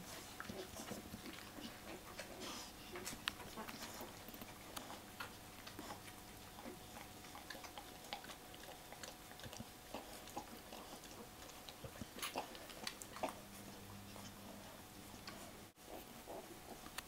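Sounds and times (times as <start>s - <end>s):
puppies suckling wet clicks: 0.1s - 15.4s.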